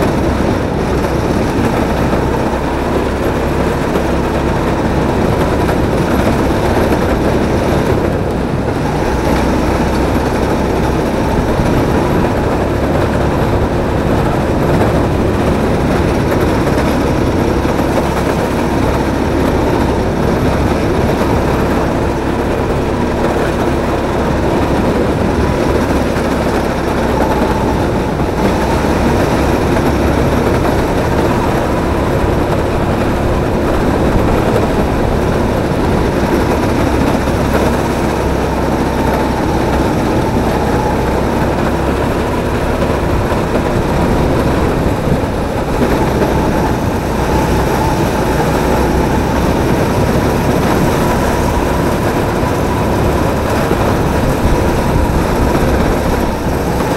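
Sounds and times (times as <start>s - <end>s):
kart motor and tyres rumbling: 0.0s - 56.9s.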